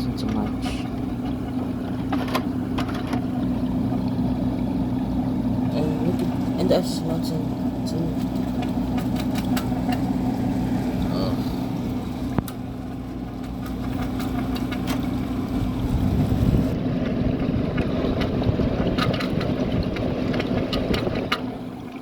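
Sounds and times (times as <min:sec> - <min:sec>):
air conditioner motor hum: 0:00.0 - 0:22.0.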